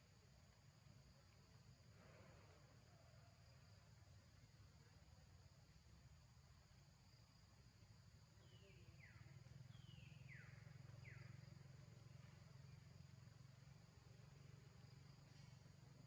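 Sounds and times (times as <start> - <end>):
faint high insect drone: 0.0 - 16.0.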